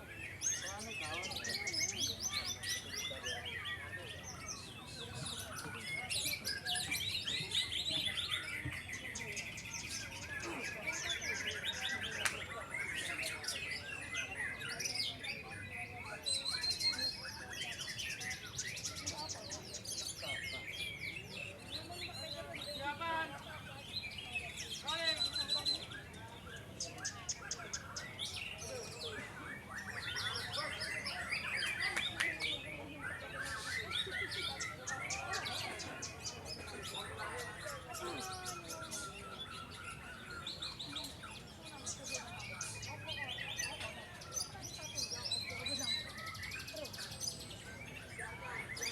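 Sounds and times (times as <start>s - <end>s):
birds singing chirps and trills: 0.0s - 48.9s.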